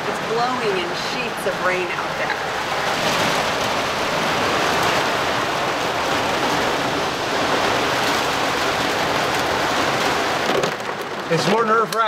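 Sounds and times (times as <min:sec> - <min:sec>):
heavy rain on bus windows: 0:00.0 - 0:12.0.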